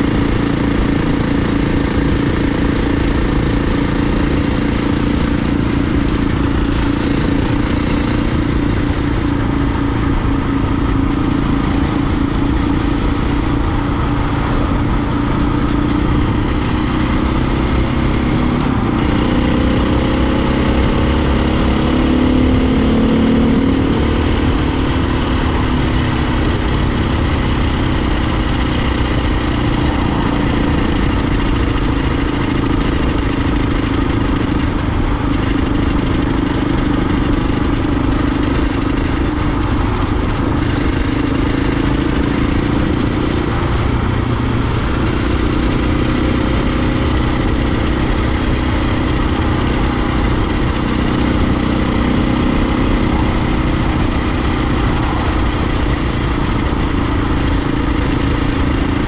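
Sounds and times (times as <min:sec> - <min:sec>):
dirt bike engine running: 0:00.0 - 0:59.0
wind rushing over microphone: 0:00.0 - 0:59.0.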